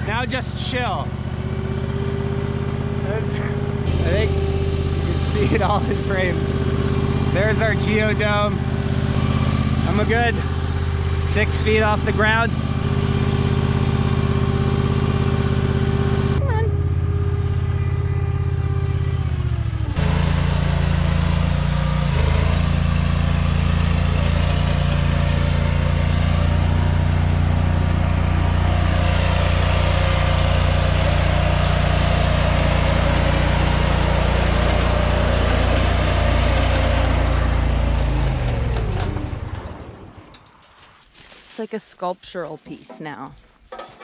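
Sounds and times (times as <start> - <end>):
backhoe engine running: 0.0 - 40.9.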